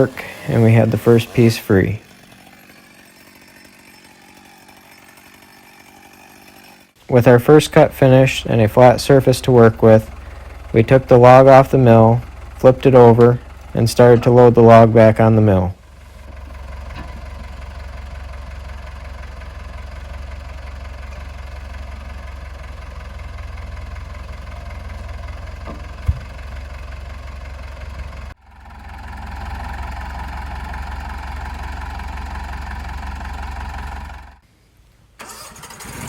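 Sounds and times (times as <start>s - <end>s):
tractor engine running: 0.0s - 34.4s, 35.2s - 36.0s.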